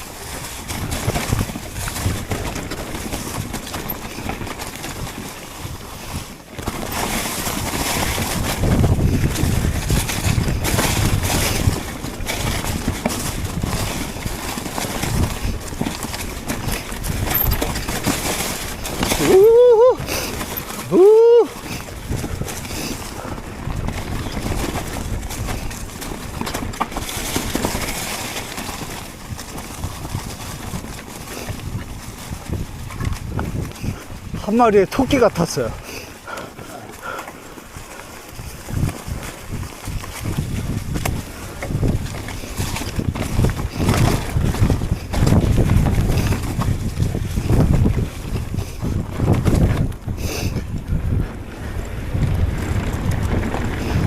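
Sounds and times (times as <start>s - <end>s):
mountain bike rattling: 0.0s - 54.0s
wind on microphone: 0.0s - 54.0s.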